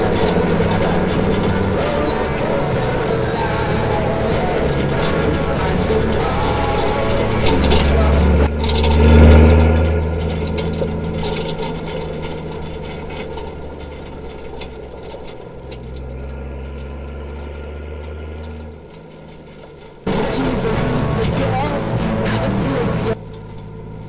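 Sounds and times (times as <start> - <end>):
diesel engine drone: 0.0 - 24.0.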